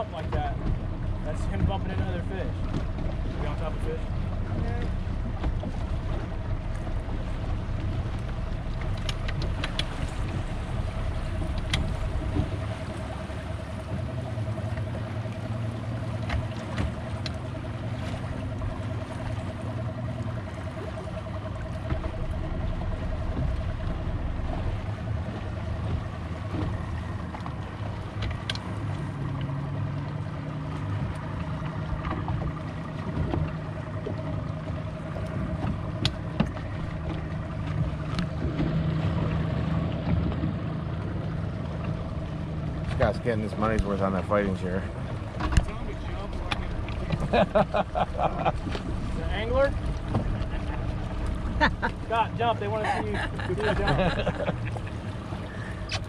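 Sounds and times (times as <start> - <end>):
boat engine running: 0.0 - 56.0
water noise: 0.0 - 56.0
wind: 0.0 - 56.0.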